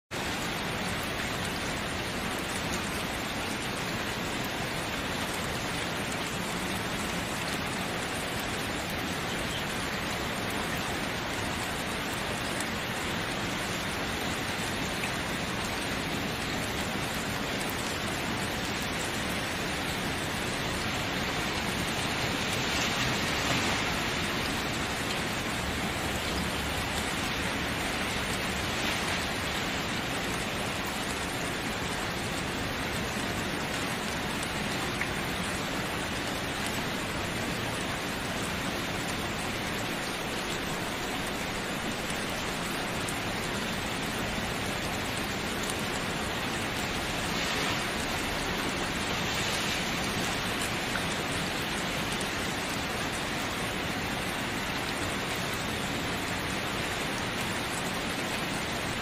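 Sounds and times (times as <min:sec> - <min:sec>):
steady rain falling: 0:00.1 - 0:59.0.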